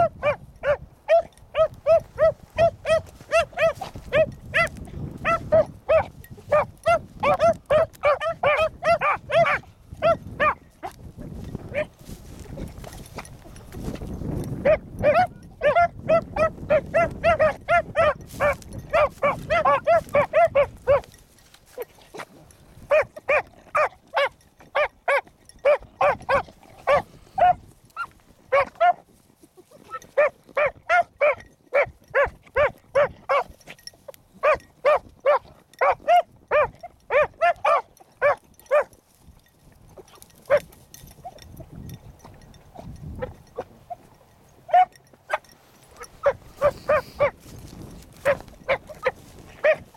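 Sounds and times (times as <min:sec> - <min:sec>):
dogs baying and yelping: 0:00.0 - 0:39.0, 0:39.9 - 0:49.9
wind on microphone: 0:00.0 - 0:49.9.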